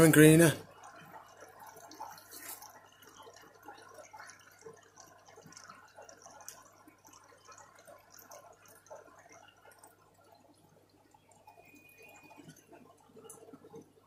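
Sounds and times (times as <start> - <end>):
small water splashes: 0.0 - 14.0
small waterfall trickling: 0.0 - 14.0.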